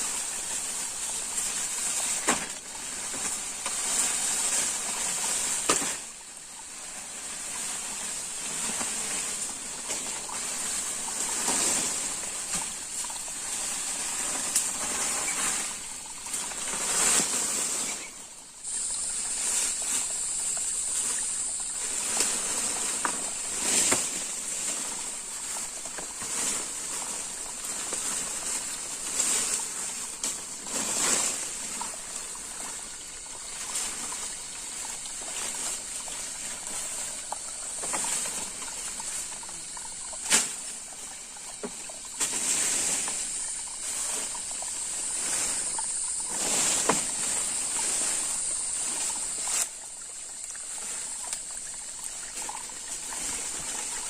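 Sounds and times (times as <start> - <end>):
steady high hiss: 0.0 - 54.0
water sloshing and splashing: 0.0 - 54.0.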